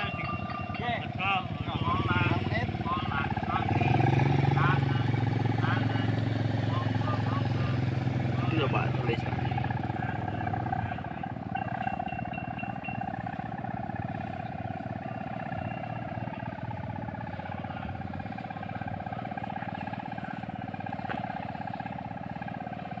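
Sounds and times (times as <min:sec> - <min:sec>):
kite hummer droning: 0:00.0 - 0:23.0.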